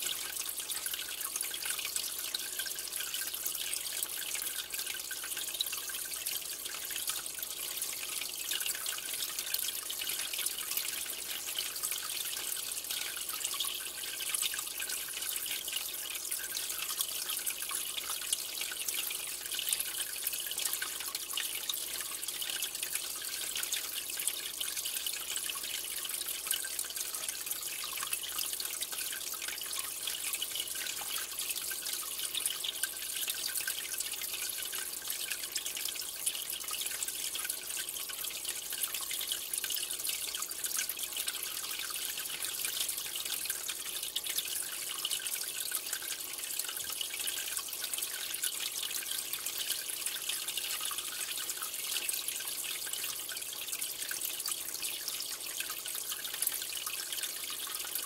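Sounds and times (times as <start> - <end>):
aquarium water trickling and bubbling: 0.0 - 58.0.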